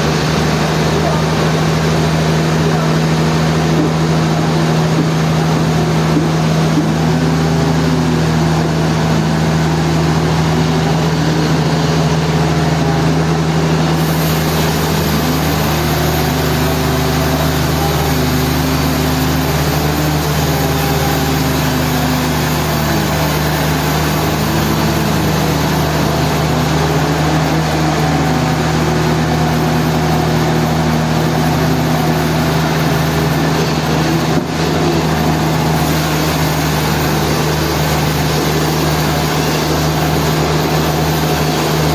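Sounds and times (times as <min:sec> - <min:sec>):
low motor hum: 0:00.0 - 0:41.9.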